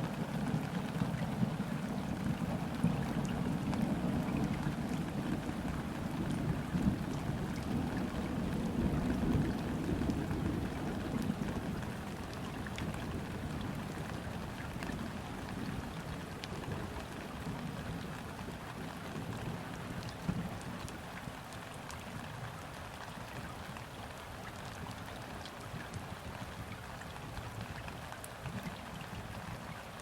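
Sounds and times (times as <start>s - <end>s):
rain falling on river: 0.0s - 30.0s.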